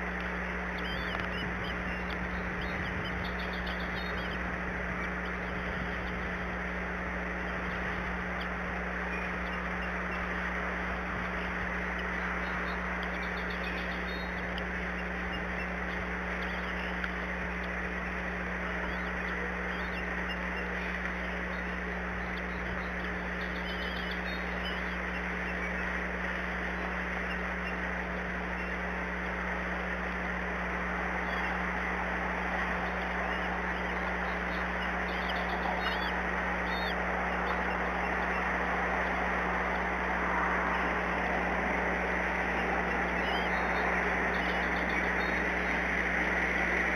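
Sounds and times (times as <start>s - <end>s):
electrical hum: 0.0s - 46.9s
high-pitched bird calls: 0.0s - 46.9s
steady hiss: 0.0s - 46.9s
steady rushing noise: 0.0s - 46.9s.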